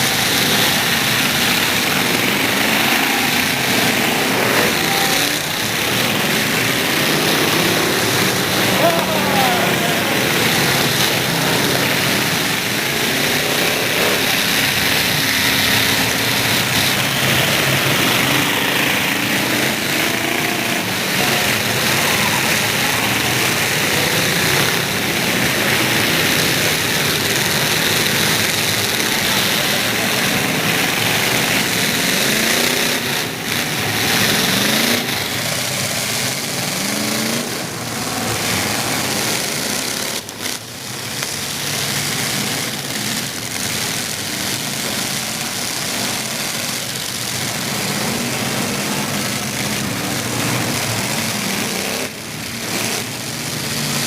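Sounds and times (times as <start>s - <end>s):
loud continuous din: 0.0s - 54.0s
truck engines revving: 0.0s - 54.0s.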